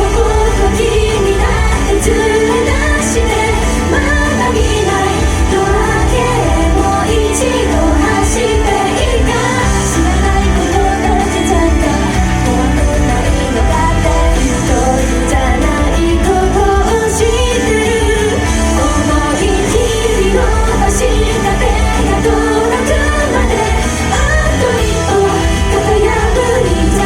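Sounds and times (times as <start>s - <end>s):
pop song with woman singing: 0.0s - 27.0s.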